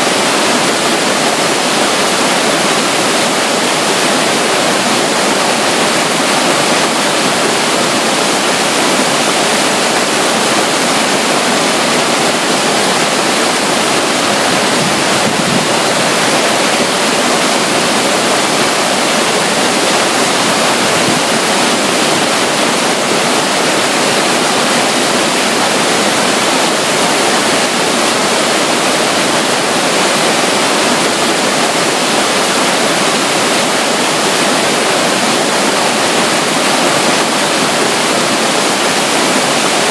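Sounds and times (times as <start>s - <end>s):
water rushing in stream: 0.0s - 39.9s.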